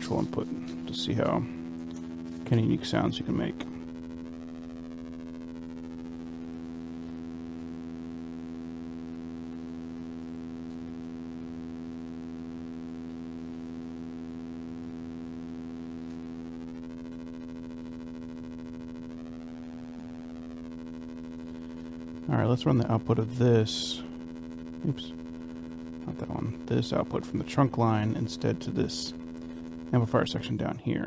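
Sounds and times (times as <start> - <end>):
synthesizer drone: 0.0 - 30.8.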